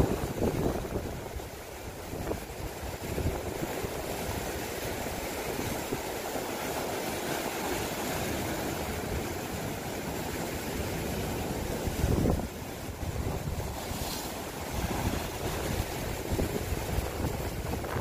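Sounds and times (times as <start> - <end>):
surf breaking against rocks: 0.0 - 18.0.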